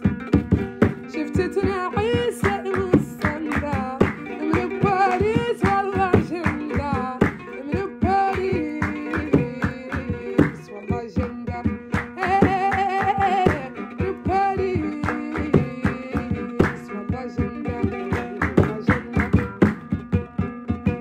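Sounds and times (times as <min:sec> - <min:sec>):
plucked strings: 0:00.0 - 0:21.0
woman singing: 0:00.0 - 0:21.0.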